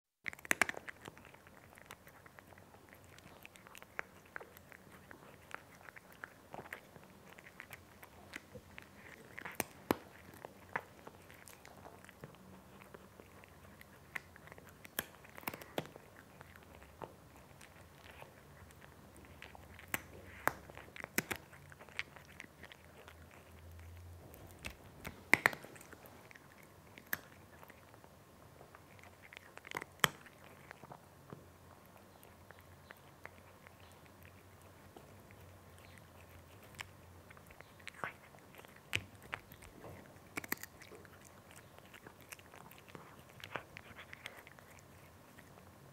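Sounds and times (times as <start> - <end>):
cat crunching dry kibble: 0.2 - 45.9.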